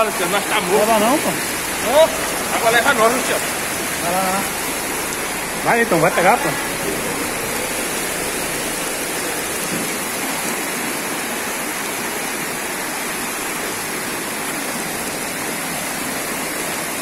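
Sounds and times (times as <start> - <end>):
floodwater rushing: 0.0 - 17.0
heavy rain: 0.0 - 17.0.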